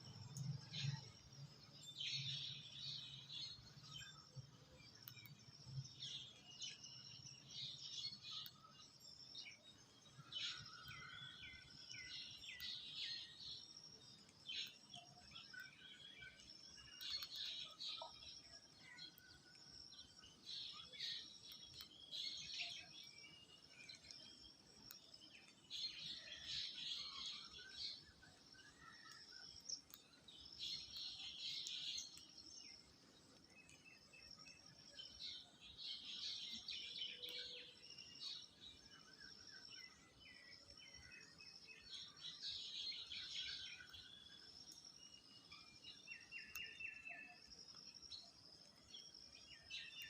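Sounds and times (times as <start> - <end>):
faint high bird chirping: 0.0 - 50.0.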